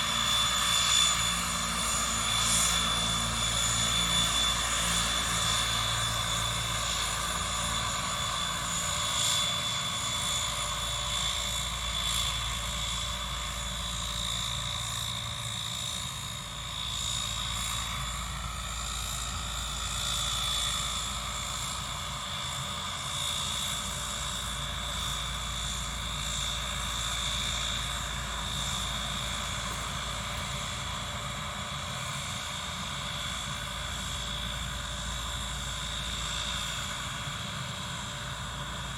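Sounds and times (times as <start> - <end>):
propeller drone: 0.0 - 38.9
turboprop engine whine: 0.0 - 38.9.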